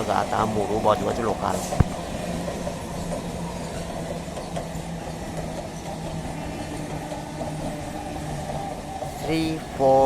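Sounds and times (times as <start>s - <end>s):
train low mechanical hum: 0.0s - 10.0s.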